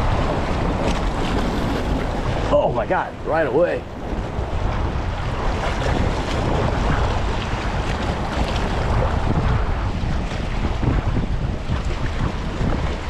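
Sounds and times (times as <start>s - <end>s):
choppy water: 0.0s - 13.0s
wind buffeting microphone: 0.0s - 13.0s.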